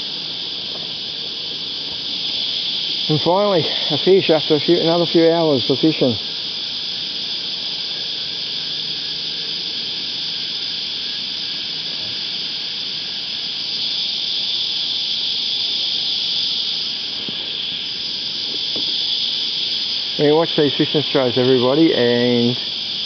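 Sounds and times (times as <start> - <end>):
cicadas chorus: 0.0 - 23.0.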